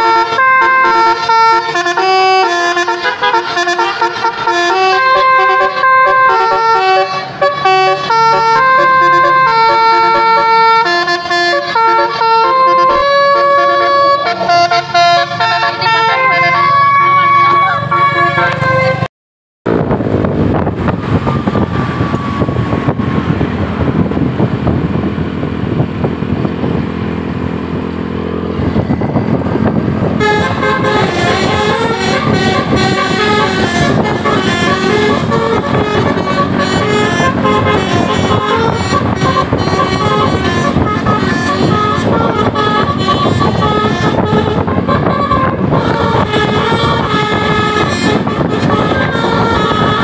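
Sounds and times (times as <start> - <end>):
bus horn playing melody: 0.0 - 19.1, 19.7 - 50.0
heavy vehicle engine: 0.0 - 50.0.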